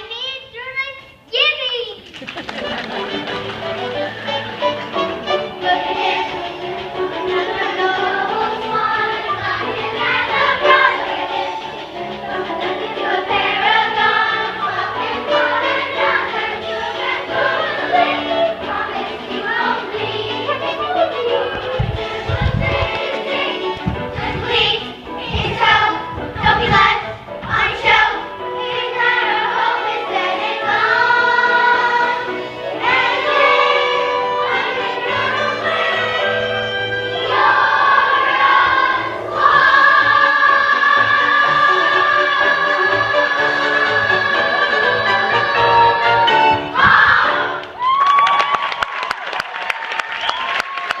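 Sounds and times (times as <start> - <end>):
choir singing held notes: 2.7 - 47.9.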